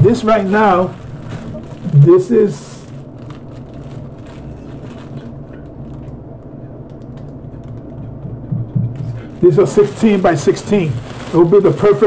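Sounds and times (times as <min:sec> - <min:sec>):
plastic bag crinkling: 0:00.0 - 0:07.9, 0:09.0 - 0:12.0
steady low hum: 0:00.0 - 0:12.0.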